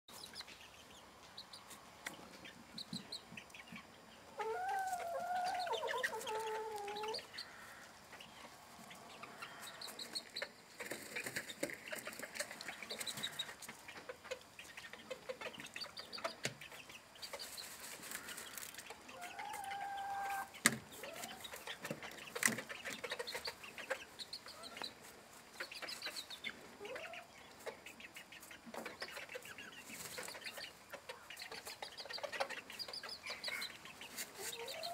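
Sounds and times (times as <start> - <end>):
hens clucking and calling: 0.1 - 34.9.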